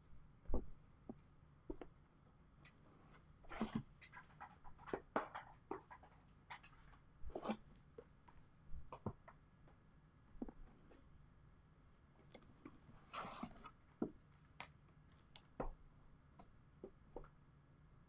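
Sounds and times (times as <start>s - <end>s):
faint rustling and crinkling: 0.1s - 18.0s.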